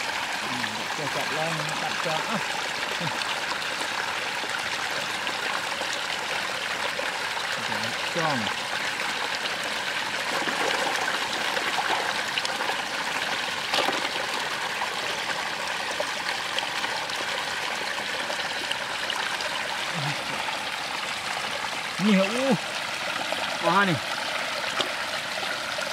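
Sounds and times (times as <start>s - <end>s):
stream water running: 0.0s - 25.9s.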